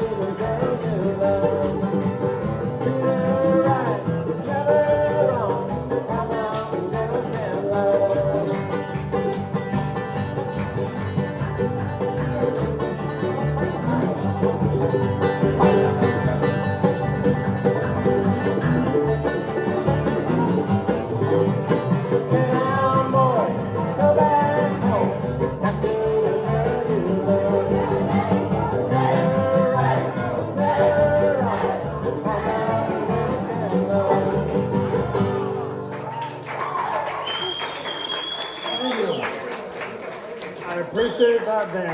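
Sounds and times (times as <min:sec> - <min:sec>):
banjo: 0:00.0 - 0:36.2
bluegrass band playing: 0:00.0 - 0:36.5.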